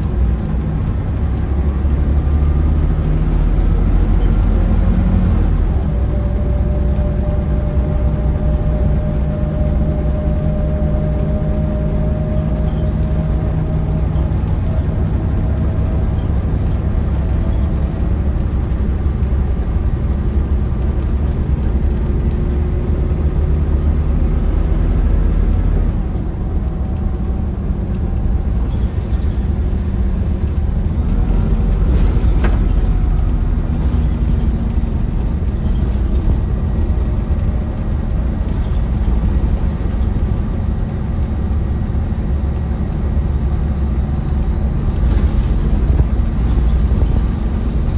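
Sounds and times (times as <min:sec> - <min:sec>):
bus diesel engine running: 0:00.0 - 0:47.9
road noise: 0:00.0 - 0:47.9.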